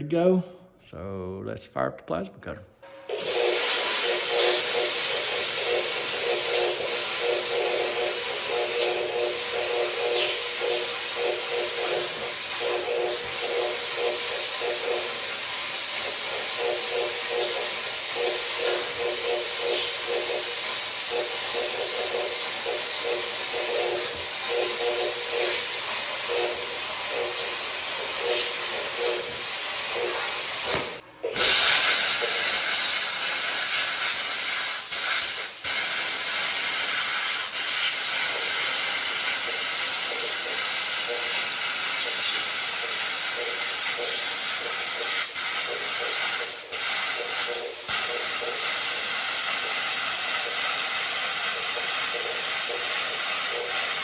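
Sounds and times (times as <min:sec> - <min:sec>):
plasma cutter hissing: 0:03.2 - 0:54.0.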